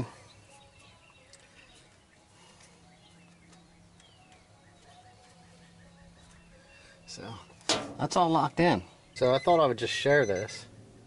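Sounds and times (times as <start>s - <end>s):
faint bird chirps: 0.0s - 7.6s, 8.8s - 11.0s.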